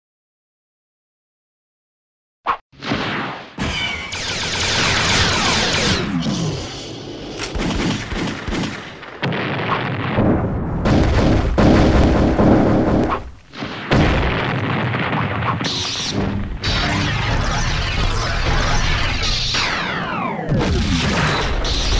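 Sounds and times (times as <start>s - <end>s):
gunfire and explosions: 2.8s - 21.9s.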